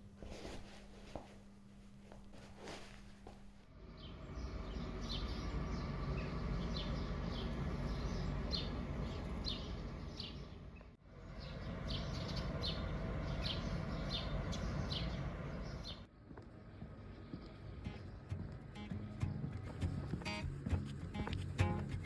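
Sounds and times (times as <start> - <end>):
outdoor background hum: 0.0 - 22.0
small birds chirping: 3.8 - 22.0.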